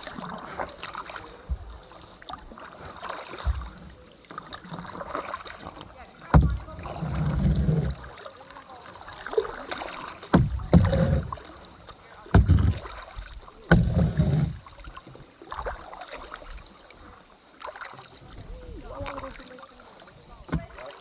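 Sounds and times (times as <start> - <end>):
kayak paddle strokes in water: 0.0 - 21.0.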